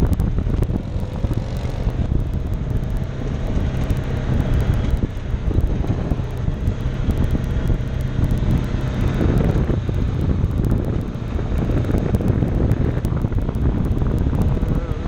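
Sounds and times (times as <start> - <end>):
tires on gravel road: 0.0 - 15.0
vehicle engine running: 0.0 - 15.0
wind on microphone: 0.0 - 15.0.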